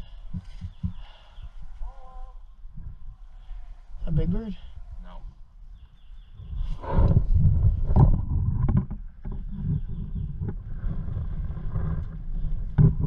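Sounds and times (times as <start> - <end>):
camera microphone rumble and rustle: 0.0 - 13.0.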